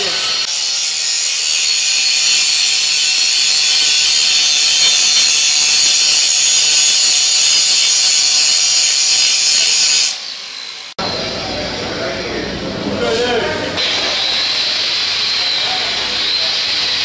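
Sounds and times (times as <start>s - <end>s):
angle grinder grinding steel: 0.0s - 11.2s, 13.8s - 17.0s.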